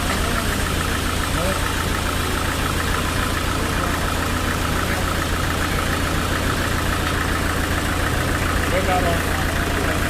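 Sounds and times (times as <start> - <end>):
sawmill machinery humming: 0.0 - 10.0.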